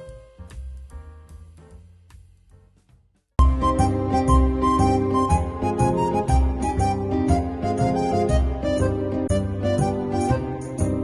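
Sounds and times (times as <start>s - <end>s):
instrumental melody with bass: 0.0s - 11.0s.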